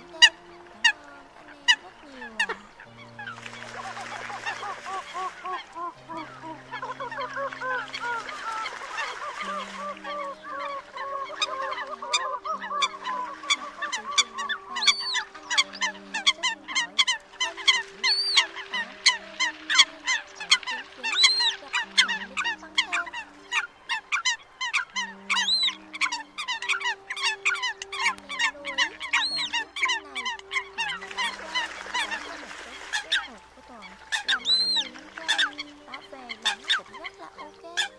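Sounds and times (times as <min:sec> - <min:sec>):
coots honking calls: 0:00.0 - 0:37.9
low steady notes: 0:00.0 - 0:37.9.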